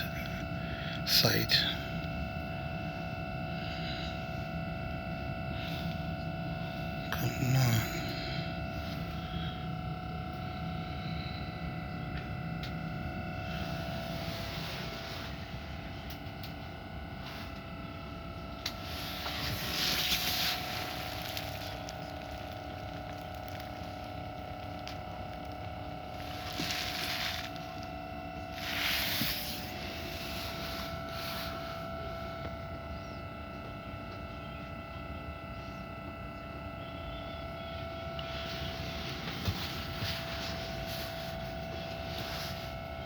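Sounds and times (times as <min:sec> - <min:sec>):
electrical hum with fixed tones: 0:00.0 - 0:43.0.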